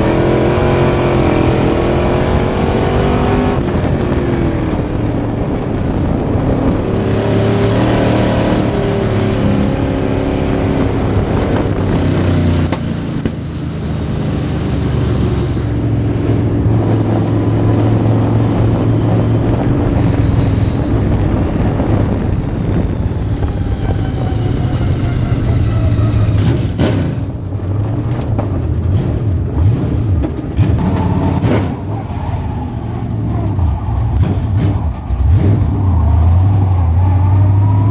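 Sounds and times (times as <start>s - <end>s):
race car engine at high revs: 0.0s - 37.9s.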